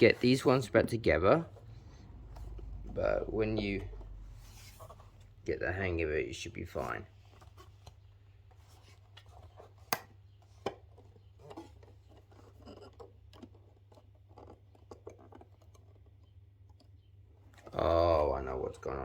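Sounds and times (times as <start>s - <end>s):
faint scraping and rubbing: 0.0s - 16.3s.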